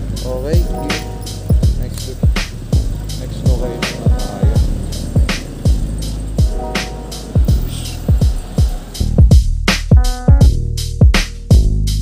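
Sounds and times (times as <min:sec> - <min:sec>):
held synth notes: 0:00.0 - 0:10.7
kick drums: 0:01.5 - 0:06.8, 0:07.4 - 0:12.0.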